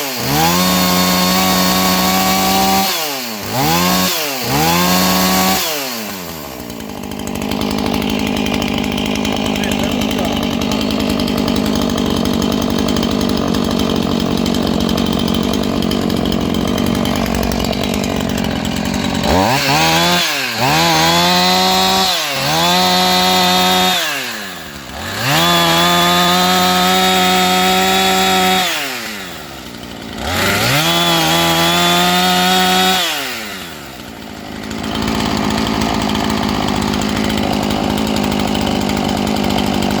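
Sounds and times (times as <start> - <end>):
chainsaw idling and revving: 0.0 - 40.0.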